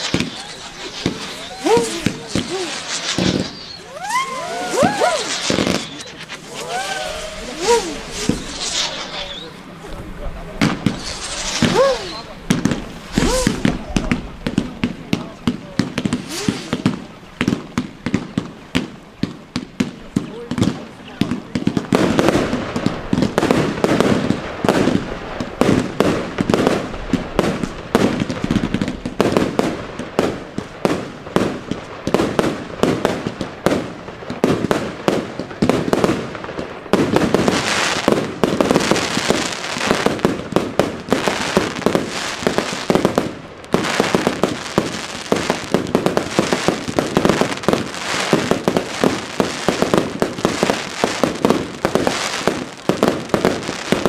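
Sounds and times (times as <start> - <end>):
fireworks popping and banging: 0.0 - 54.0.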